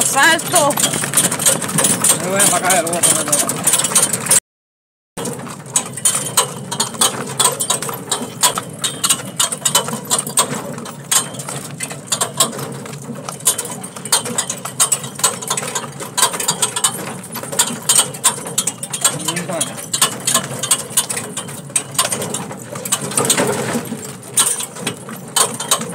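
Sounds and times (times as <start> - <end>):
cart rattling over gravel: 0.0 - 4.4, 5.2 - 25.9.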